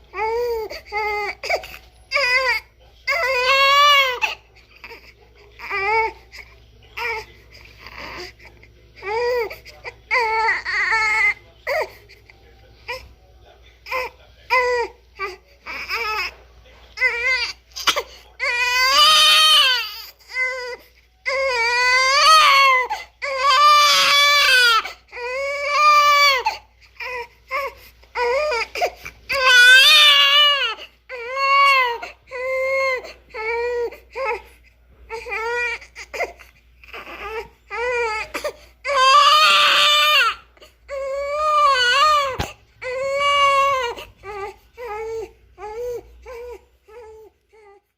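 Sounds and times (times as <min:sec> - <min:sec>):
baby crying: 0:00.1 - 0:08.4, 0:09.0 - 0:12.0, 0:17.0 - 0:34.5, 0:35.1 - 0:47.8.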